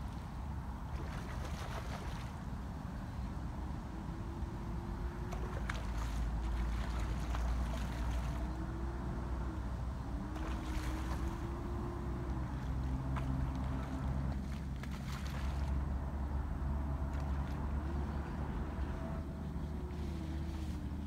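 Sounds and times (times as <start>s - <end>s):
distant motor droning: 0.0s - 21.0s.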